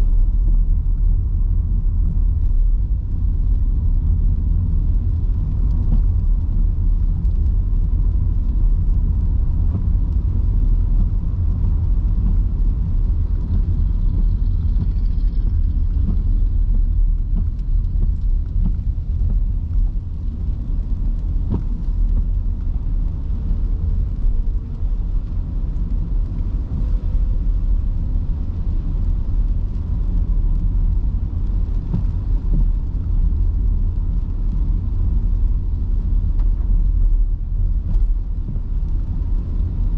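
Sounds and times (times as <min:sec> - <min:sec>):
car driving in heavy rain: 0:00.0 - 0:39.9.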